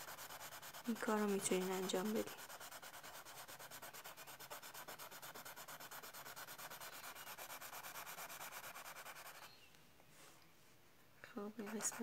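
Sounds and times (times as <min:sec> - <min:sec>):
crayon rubbing on board: 0:00.0 - 0:09.5, 0:11.6 - 0:12.0.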